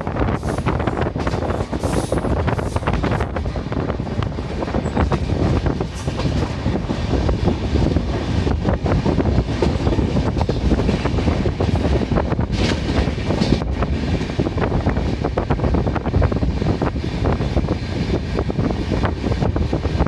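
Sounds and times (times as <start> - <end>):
train coach rumble: 0.0 - 20.0
wheels clattering on track: 0.2 - 20.0.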